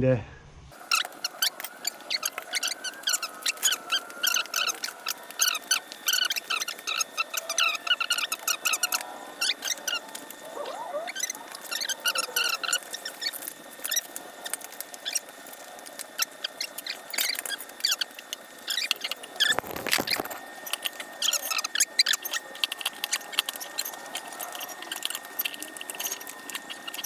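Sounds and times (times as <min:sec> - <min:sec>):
tyre squeaking and scraping on rim: 0:00.7 - 0:27.0.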